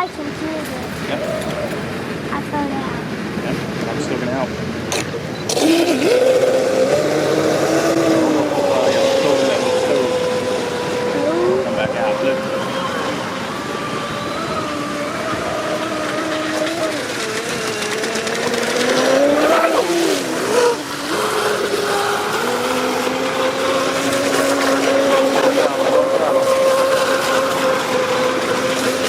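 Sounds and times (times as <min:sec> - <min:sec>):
electric motor whining: 0:04.9 - 0:29.0.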